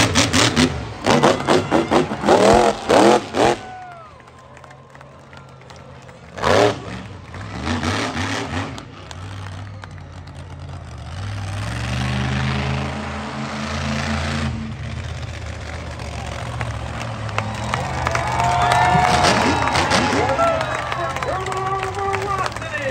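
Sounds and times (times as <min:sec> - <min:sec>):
monster truck engine revving: 0:00.0 - 0:04.1, 0:05.6 - 0:22.9.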